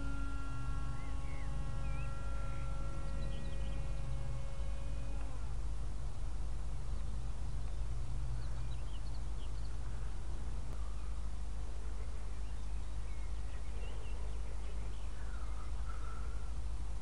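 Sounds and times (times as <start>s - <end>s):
faint bird chirps: 0.0s - 4.7s, 6.8s - 16.7s
low rumble and hiss: 0.0s - 17.0s.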